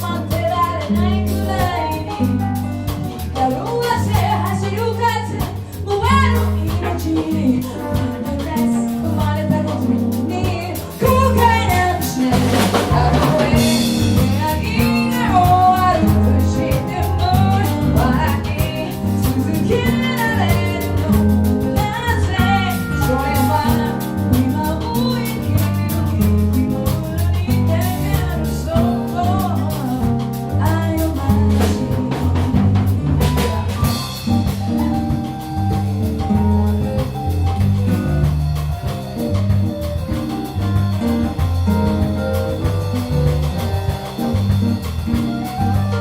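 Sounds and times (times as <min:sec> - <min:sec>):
band music with sliding lead: 0:00.0 - 0:46.0.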